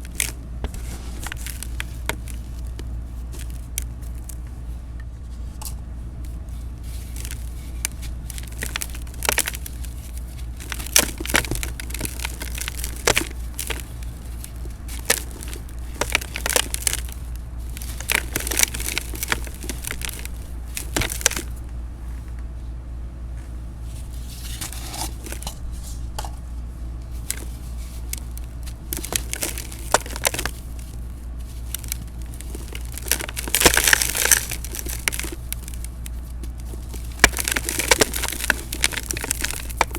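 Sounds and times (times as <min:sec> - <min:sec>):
dried cement crunching and crumbling: 0:00.0 - 0:22.4, 0:23.4 - 0:39.9
steady low hum: 0:00.0 - 0:39.9.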